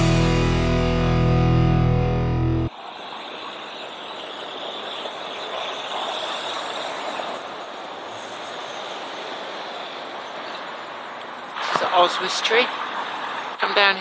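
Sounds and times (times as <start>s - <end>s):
distant road traffic: 2.6s - 14.0s.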